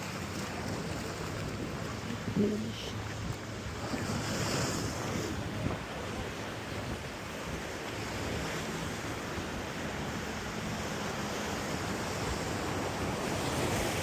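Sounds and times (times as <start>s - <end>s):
surf washing against rocks: 0.0s - 14.0s
wind buffeting microphone: 0.0s - 14.0s.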